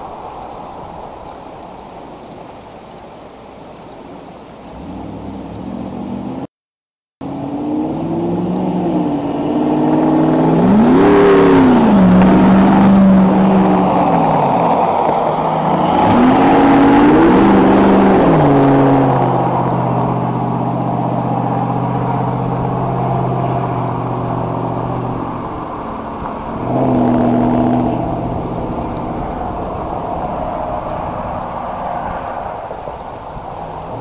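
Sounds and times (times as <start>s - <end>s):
motor vehicle engine running: 4.0s - 6.5s, 7.2s - 34.0s.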